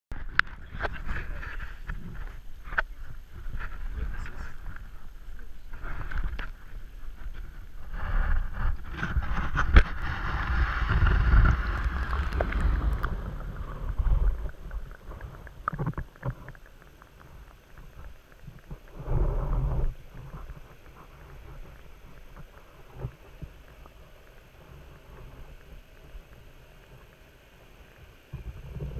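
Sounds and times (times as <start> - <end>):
underwater rumble: 0.1 - 28.9
water splashing and bubbling: 0.1 - 28.9.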